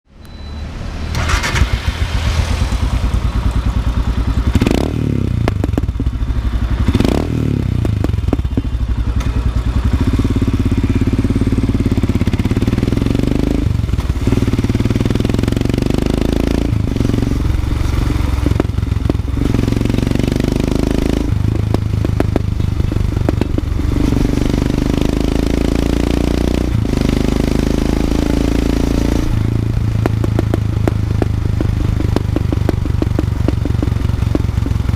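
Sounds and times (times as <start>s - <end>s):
motorcycle engine running: 1.1s - 34.9s.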